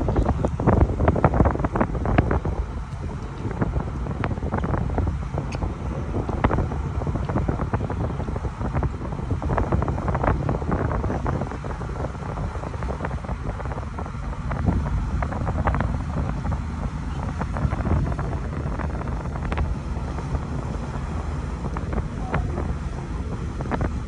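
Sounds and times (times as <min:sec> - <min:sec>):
boat engines rumbling: 0:00.0 - 0:24.0
propwash churning: 0:00.0 - 0:24.0
wind buffeting microphone: 0:00.0 - 0:24.0.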